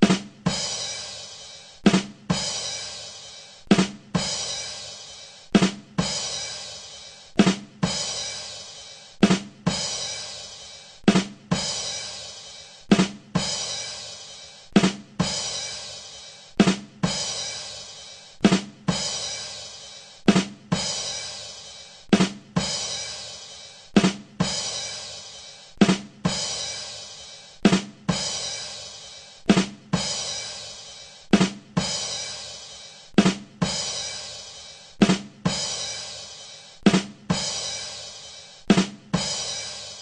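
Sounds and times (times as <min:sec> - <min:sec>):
drum strikes: 0:00.0 - 0:40.0.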